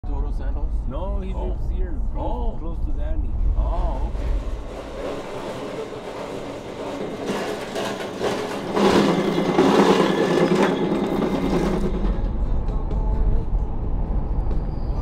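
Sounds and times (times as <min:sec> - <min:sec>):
low vehicle rumble: 0:00.1 - 0:09.6, 0:11.3 - 0:15.0.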